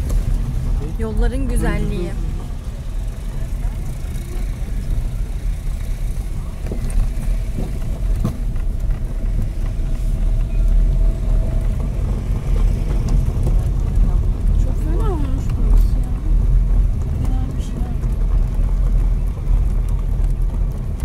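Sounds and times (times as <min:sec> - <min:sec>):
car engine and tyres rumbling: 0:00.0 - 0:21.0
stones clicking under wheels: 0:00.0 - 0:21.0.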